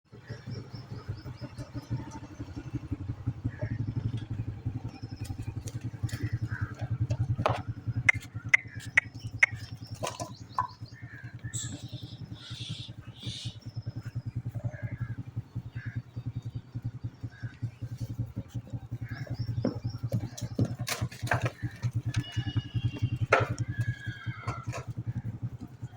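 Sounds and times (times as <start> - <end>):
small engine puttering: 0.1 - 25.9.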